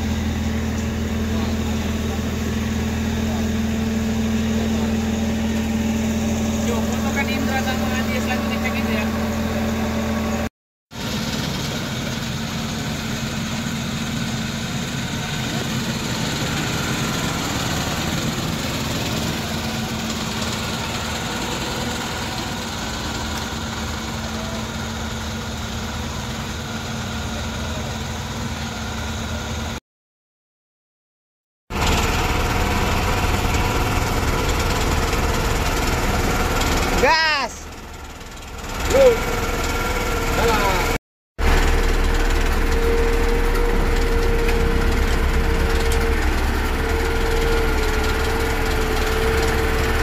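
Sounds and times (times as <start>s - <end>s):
road grader diesel engine: 0.0s - 29.8s, 31.7s - 50.0s.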